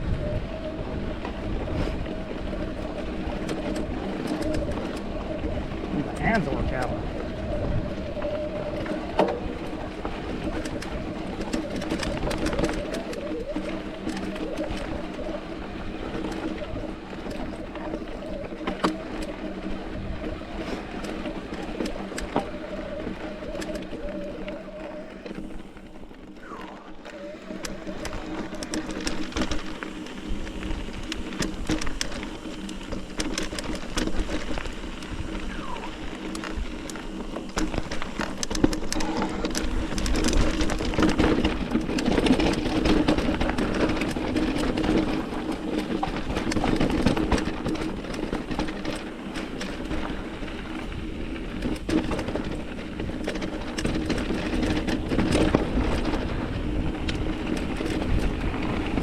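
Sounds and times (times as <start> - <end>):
bike chain and frame rattling: 0.0 - 59.0
bike tyres rolling on rock: 0.0 - 59.0.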